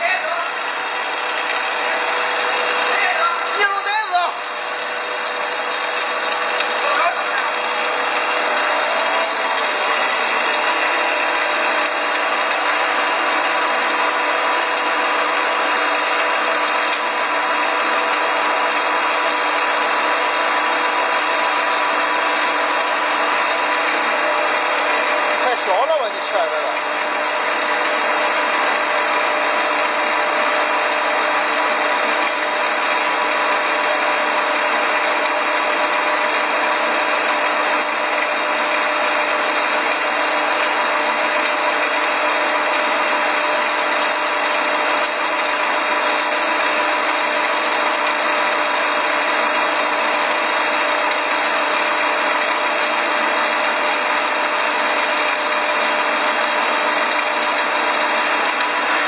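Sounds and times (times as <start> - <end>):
machine rattle and hum: 0.0 - 59.0.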